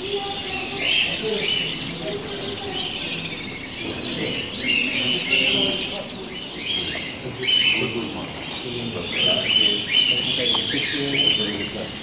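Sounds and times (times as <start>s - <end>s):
canaries chirping and singing: 0.0s - 12.0s
murmur of voices: 0.0s - 12.0s.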